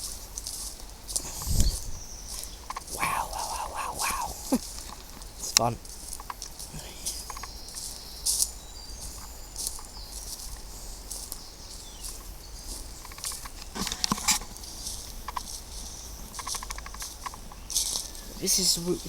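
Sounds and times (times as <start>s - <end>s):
footsteps scuffing on path: 0.0s - 19.0s.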